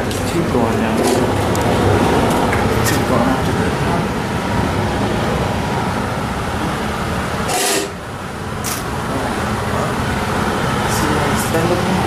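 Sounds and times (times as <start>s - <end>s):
furnace rumbling: 0.0s - 12.0s.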